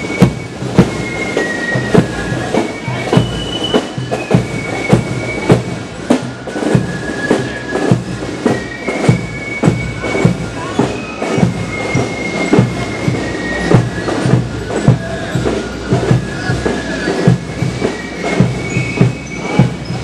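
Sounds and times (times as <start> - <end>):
held wind instrument notes: 0.0 - 20.0
marching drum beat: 0.0 - 20.0.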